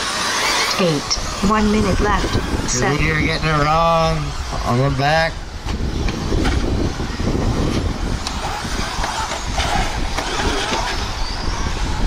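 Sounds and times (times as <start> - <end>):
rc car motors whining: 0.0 - 12.0
steady rush of noise: 0.0 - 12.0.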